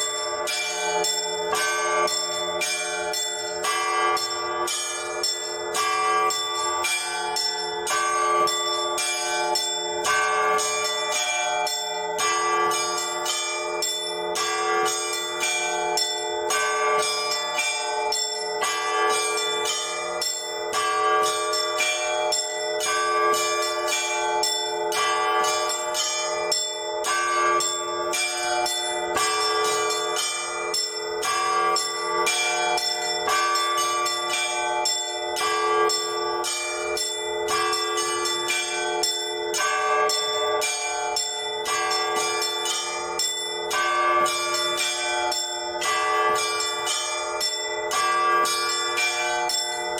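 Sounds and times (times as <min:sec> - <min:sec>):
small church bells ringing quickly: 0:00.0 - 0:49.9.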